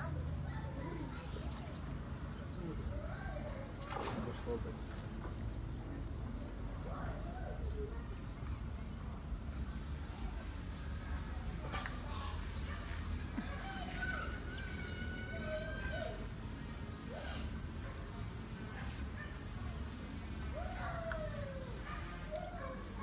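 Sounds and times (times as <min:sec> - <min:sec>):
faint distant calls: 0:00.0 - 0:23.0
high insect drone: 0:00.0 - 0:23.0.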